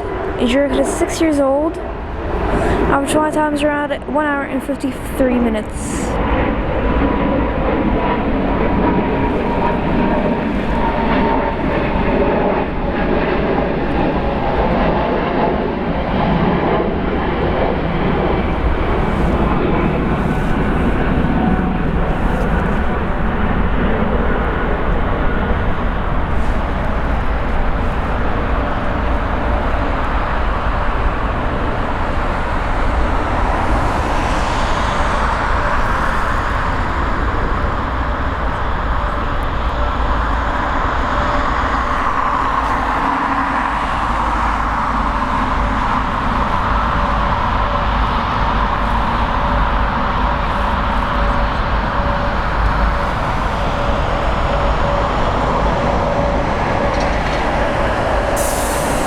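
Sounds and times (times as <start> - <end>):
engine whine gliding in pitch: 0.0 - 59.0
jet engines rumbling: 0.0 - 59.0.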